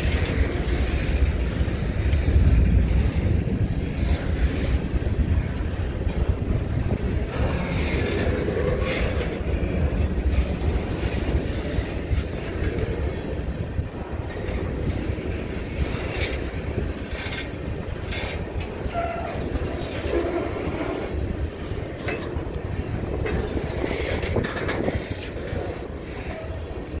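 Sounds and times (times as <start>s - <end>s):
train wheels rumbling on rail: 0.0s - 27.0s
wheels clacking over rail joints: 0.0s - 27.0s.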